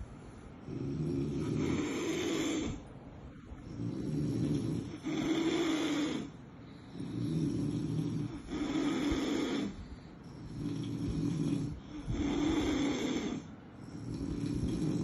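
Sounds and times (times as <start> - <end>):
puppy snoring: 0.0 - 15.0.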